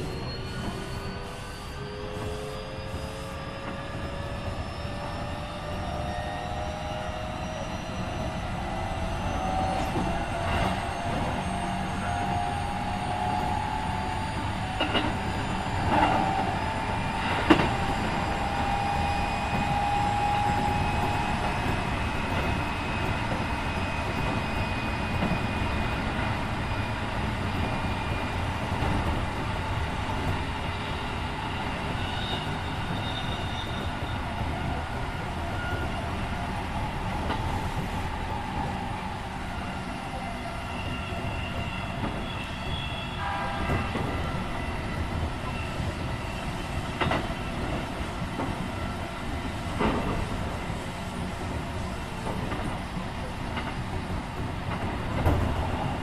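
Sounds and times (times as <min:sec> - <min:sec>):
wheels rumbling on track: 0:02.2 - 0:40.1, 0:40.8 - 0:56.0.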